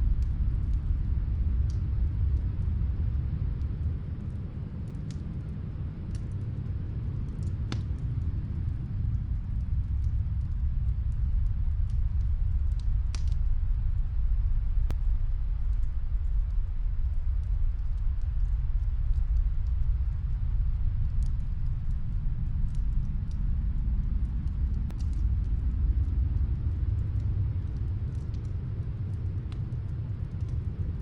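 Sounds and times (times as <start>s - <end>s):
snowstorm wind rumbling: 0.0s - 31.0s
wood fire crackling: 0.0s - 31.0s.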